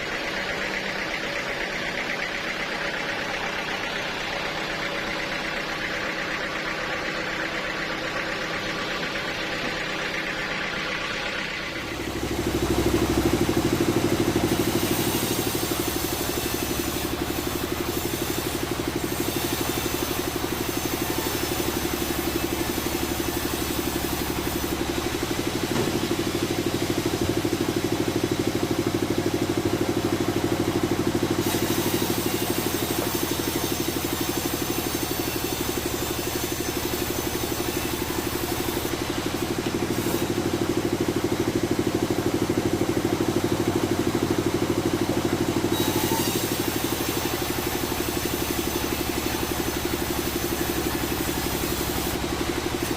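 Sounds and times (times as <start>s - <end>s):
sawmill machinery humming: 0.0s - 52.9s.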